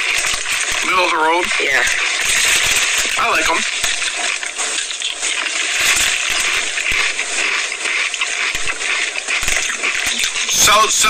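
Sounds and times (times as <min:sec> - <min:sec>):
chip bag crackling: 0:00.0 - 0:11.0.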